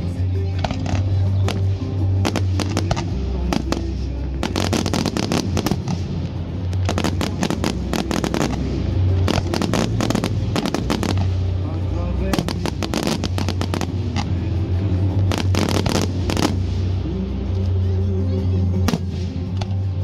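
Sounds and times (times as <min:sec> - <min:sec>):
music playing: 0:00.0 - 0:20.0
fireworks bangs and crackling: 0:00.6 - 0:17.0.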